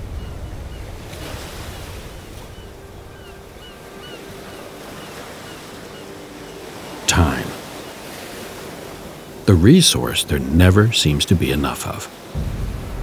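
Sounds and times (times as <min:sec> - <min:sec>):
ocean waves on shore: 0:00.0 - 0:13.0.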